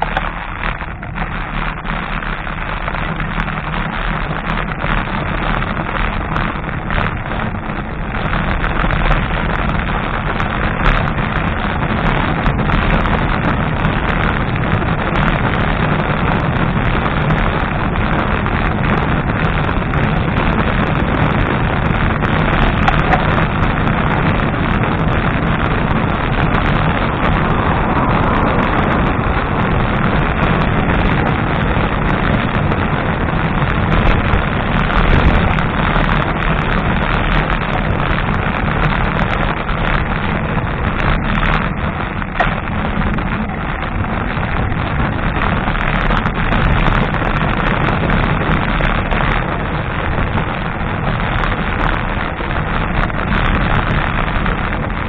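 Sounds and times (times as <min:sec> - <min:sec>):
road rumble: 0:00.0 - 0:55.0
wind rushing over microphone: 0:00.0 - 0:55.0.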